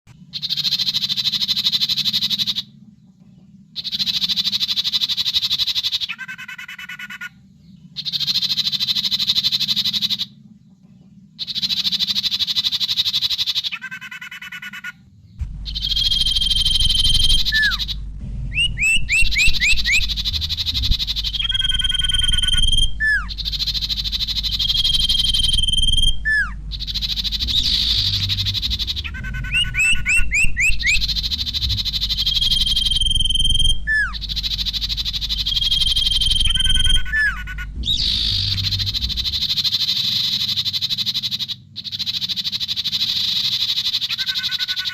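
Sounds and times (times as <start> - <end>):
low steady hum: 0.1 - 42.4
bird singing trills and whistles: 0.1 - 44.9.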